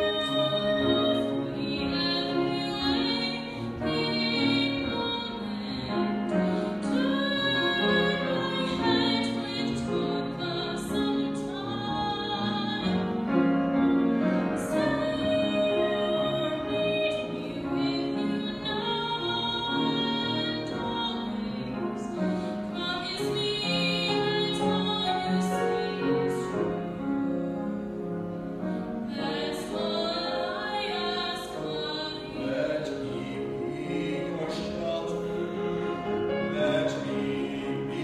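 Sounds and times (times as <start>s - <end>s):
piano: 0.0s - 38.0s
singers performing a slow ballad: 0.0s - 38.0s.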